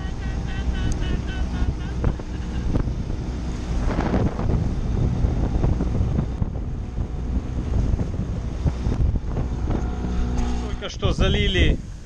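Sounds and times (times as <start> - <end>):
outboard motor running: 0.0 - 12.0
water splashing along hull: 0.0 - 12.0
wind buffeting microphone: 0.2 - 12.0.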